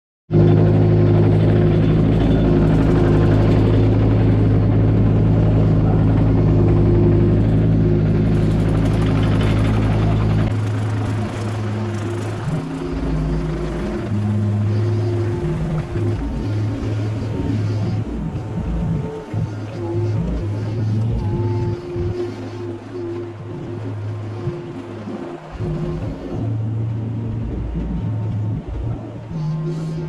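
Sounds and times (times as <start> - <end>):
excavator diesel engine running: 0.3 - 30.0.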